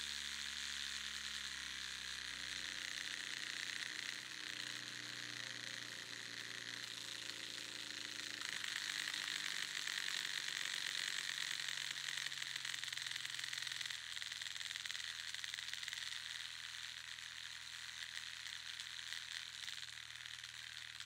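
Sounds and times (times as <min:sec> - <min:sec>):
vibrating thread buzz: 0:00.0 - 0:21.0.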